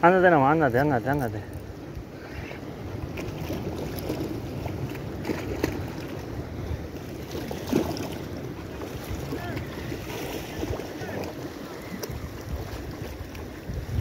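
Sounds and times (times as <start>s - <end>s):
waves splashing against rocks: 0.0s - 14.0s
wind buffeting microphone: 1.4s - 14.0s.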